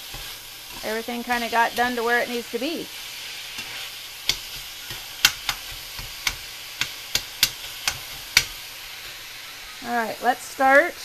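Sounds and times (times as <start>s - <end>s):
utensil scraping pan: 0.0s - 9.2s
sausage sizzling in skillet: 0.0s - 11.0s.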